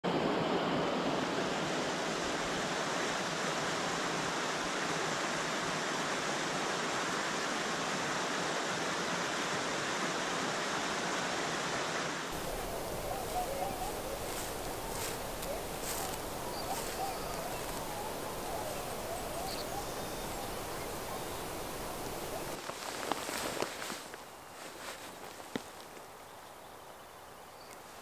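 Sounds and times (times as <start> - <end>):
flowing water rushing: 0.1 - 28.0.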